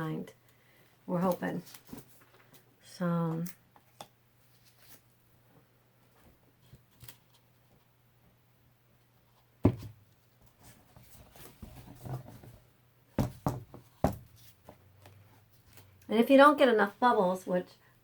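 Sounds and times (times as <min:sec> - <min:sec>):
soft handling and rustling: 0:00.4 - 0:08.3, 0:08.9 - 0:16.1.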